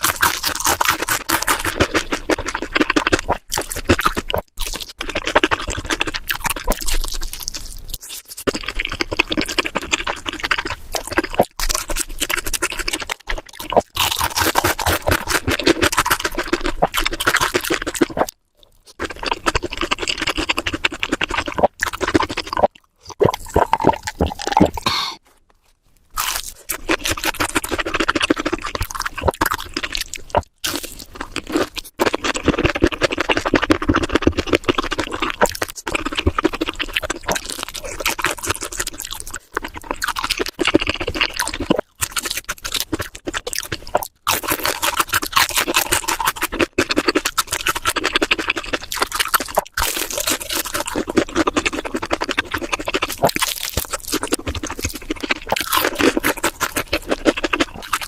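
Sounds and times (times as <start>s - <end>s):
chewing crispy food: 0.0s - 58.0s.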